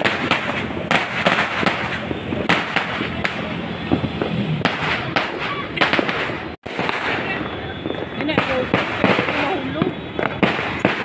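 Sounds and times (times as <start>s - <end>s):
firecracker bangs: 0.0s - 11.0s
fireworks crackling: 0.0s - 11.0s.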